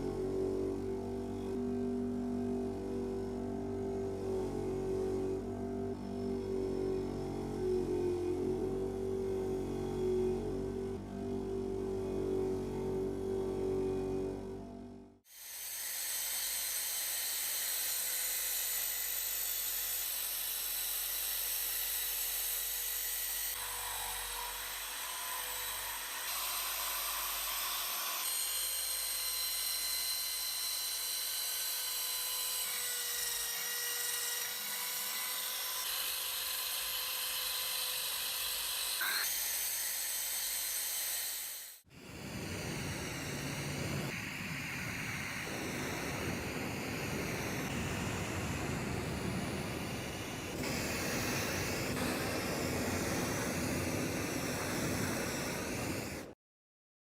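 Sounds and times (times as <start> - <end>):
power tool whining on metal: 0.0 - 56.4.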